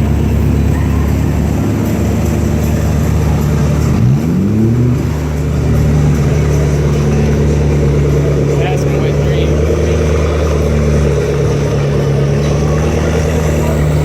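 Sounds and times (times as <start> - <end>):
car engine running and revving: 0.0 - 14.0.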